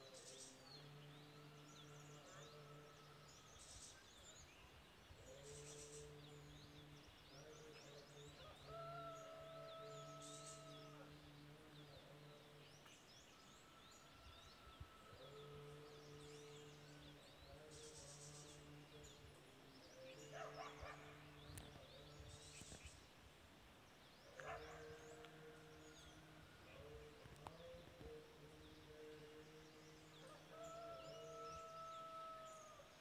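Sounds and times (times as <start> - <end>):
low chanting: 0.0 - 33.0
small birds chirping: 0.0 - 33.0.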